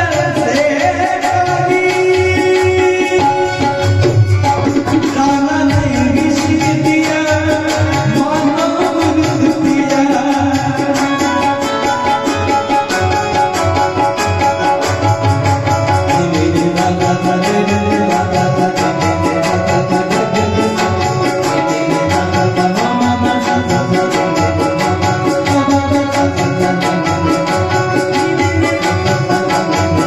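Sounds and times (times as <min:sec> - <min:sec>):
hand drum rhythm: 0:00.0 - 0:30.0.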